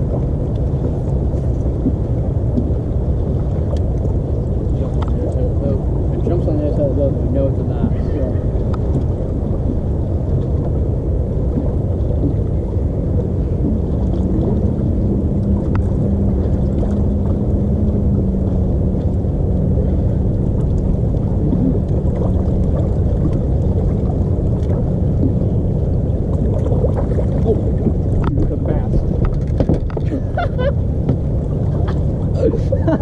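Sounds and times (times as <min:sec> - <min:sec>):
low steady hum: 0:00.0 - 0:33.0
wind rumble on microphone: 0:00.0 - 0:33.0.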